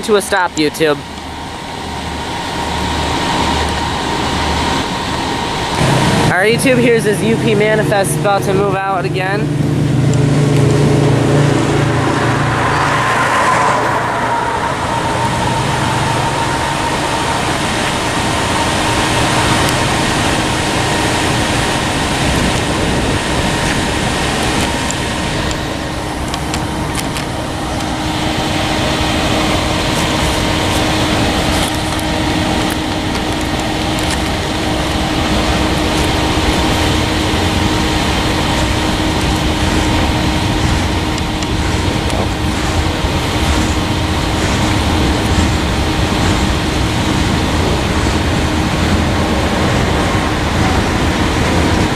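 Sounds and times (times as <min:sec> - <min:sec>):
freight train rumbling: 0:00.0 - 0:51.9
steady tones: 0:00.0 - 0:51.9.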